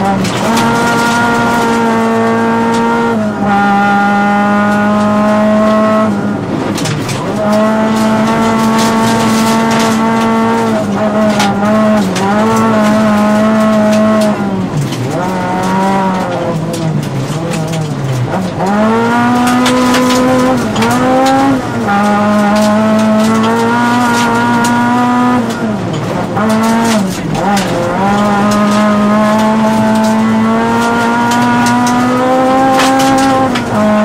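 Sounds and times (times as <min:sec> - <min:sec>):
gravel striking car: 0:00.0 - 0:34.0
rally car engine revving: 0:00.0 - 0:34.0.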